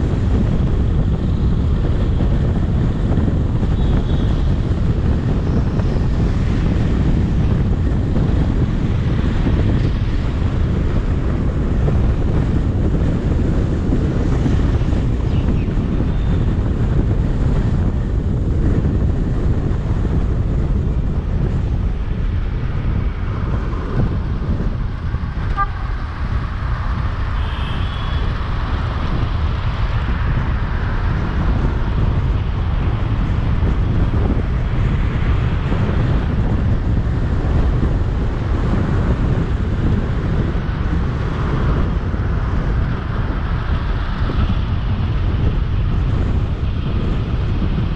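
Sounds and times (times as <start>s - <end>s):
road and traffic noise: 0.0s - 47.9s
wind rumble on microphone: 0.0s - 47.9s.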